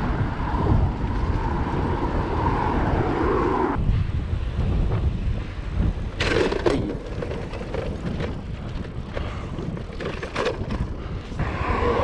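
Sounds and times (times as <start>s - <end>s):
bicycle rolling: 0.0s - 11.7s
wind rumbling on microphone: 0.0s - 12.0s.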